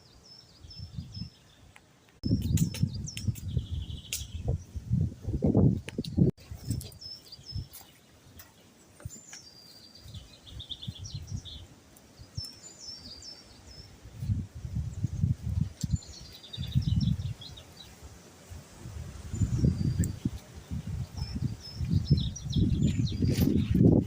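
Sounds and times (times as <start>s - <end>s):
songbird singing trills: 0.0s - 14.0s, 14.8s - 18.0s, 19.3s - 24.0s.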